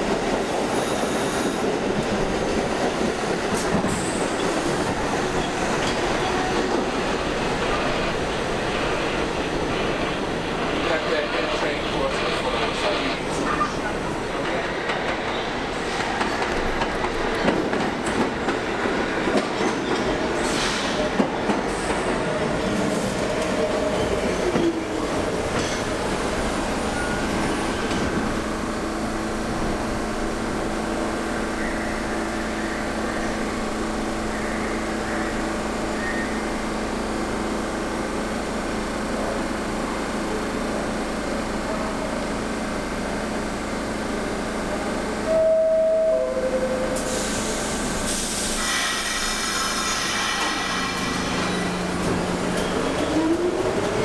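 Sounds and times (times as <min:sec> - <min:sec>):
subway train rumbling on rails: 0:00.0 - 0:54.0.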